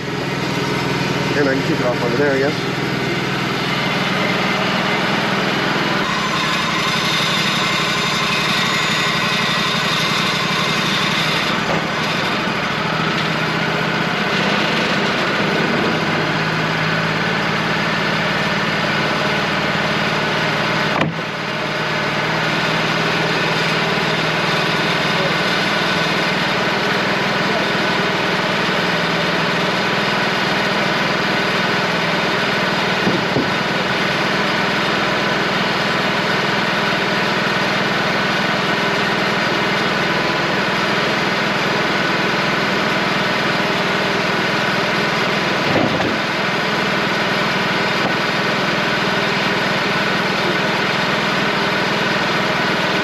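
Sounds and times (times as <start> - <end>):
sawmill engine running: 0.0 - 53.0.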